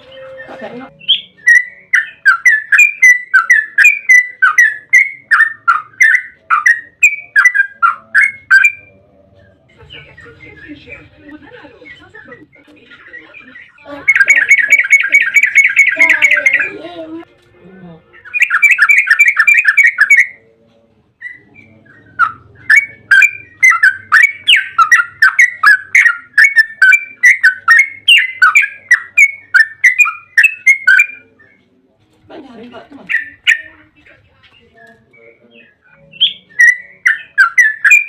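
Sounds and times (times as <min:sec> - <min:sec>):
bulbul singing: 0:00.0 - 0:17.1, 0:18.1 - 0:31.7, 0:33.0 - 0:38.0.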